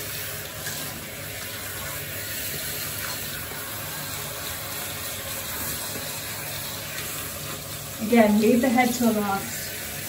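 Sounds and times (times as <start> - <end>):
shower spray on wet fur: 0.0 - 10.0.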